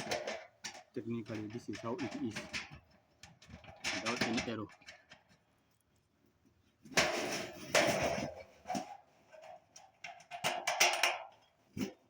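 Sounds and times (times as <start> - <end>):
rattling scrapes of hardware: 0.0 - 5.4, 6.9 - 12.0.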